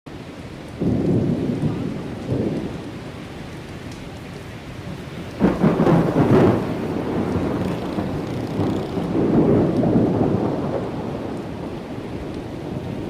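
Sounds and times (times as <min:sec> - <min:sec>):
steady rain: 0:00.1 - 0:13.0
thunder rumbling: 0:00.2 - 0:13.0.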